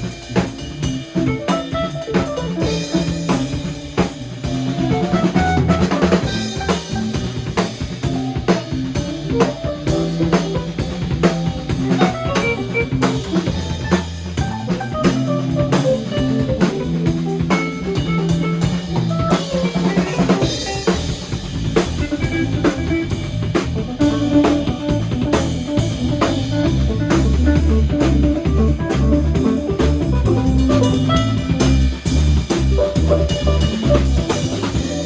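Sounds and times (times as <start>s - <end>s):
bass guitar: 0.0s - 35.0s
drum kit beat: 0.0s - 35.0s
electric guitar playing: 0.6s - 35.0s.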